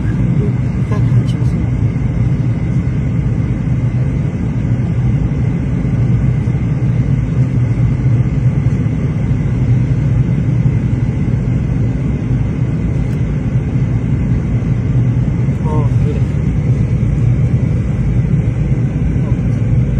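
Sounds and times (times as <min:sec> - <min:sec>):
jet engine rumble in cabin: 0:00.0 - 0:19.9.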